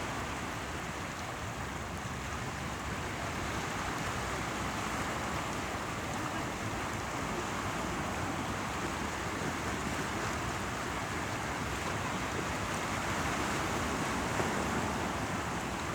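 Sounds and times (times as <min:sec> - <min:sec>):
sea waves: 0:02.8 - 0:15.9.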